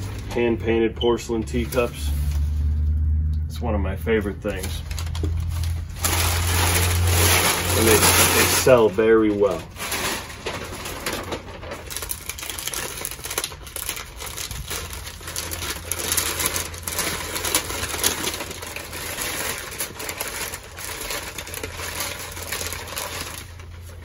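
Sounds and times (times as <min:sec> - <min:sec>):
paper crinkling and rustling: 0:00.0 - 0:03.0, 0:04.2 - 0:24.0.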